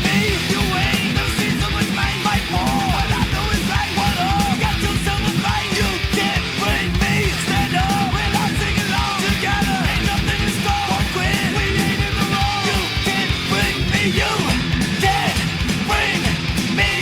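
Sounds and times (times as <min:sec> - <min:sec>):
punk rock music: 0:00.0 - 0:17.0
shouted vocals: 0:00.0 - 0:17.0.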